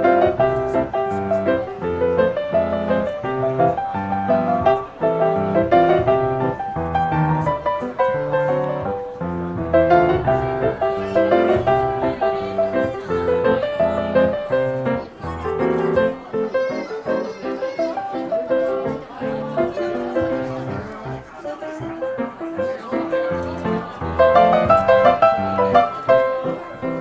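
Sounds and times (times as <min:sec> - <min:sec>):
melodic piano piece: 0:00.0 - 0:27.0.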